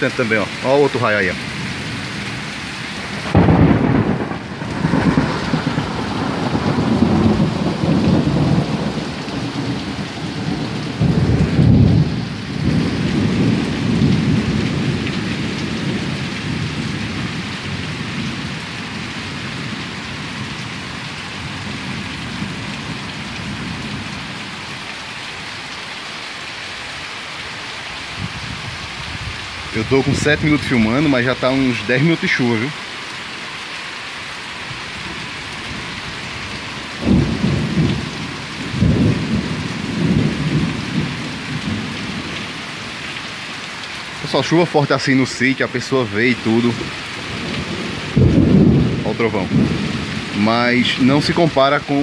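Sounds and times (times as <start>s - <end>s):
heavy rain: 0.0s - 52.0s
thunder rumbling: 1.2s - 24.4s, 28.1s - 31.7s, 34.8s - 43.1s, 45.2s - 51.9s.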